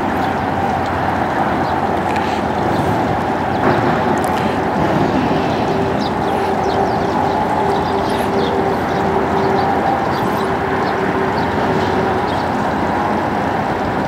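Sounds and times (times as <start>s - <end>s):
constant rushing noise: 0.0s - 14.0s
machine drone: 0.0s - 14.0s.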